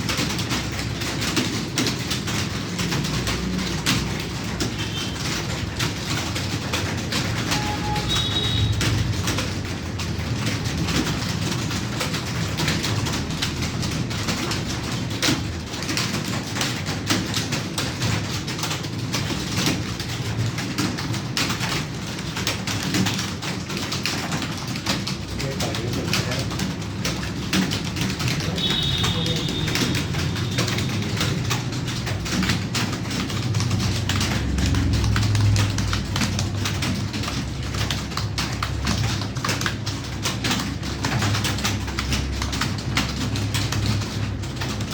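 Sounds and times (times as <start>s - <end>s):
keyboard typing: 0.0s - 44.9s.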